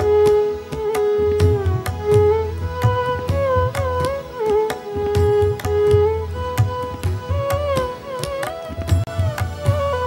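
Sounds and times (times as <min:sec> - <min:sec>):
hand drum strokes: 0:00.0 - 0:10.0.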